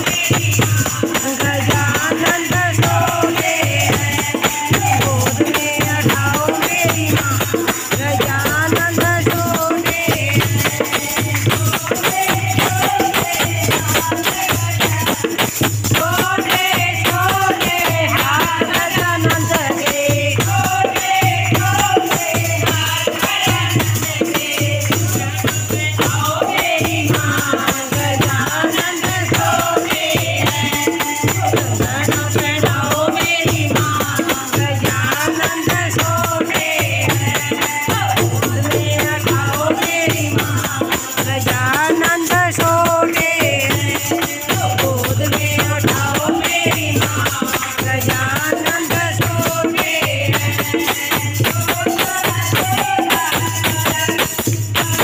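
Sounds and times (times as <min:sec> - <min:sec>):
hand drum beat: 0:00.0 - 0:55.0
women singing devotional song: 0:00.0 - 0:55.0.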